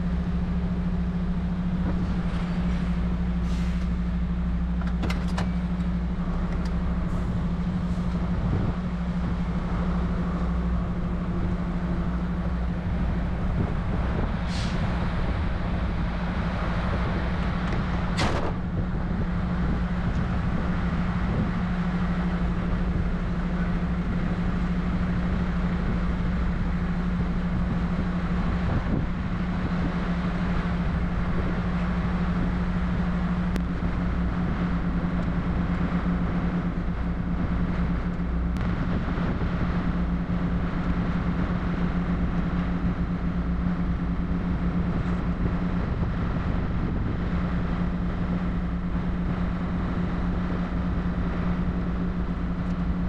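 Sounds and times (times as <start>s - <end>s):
diesel truck engine droning: 0.0s - 53.0s.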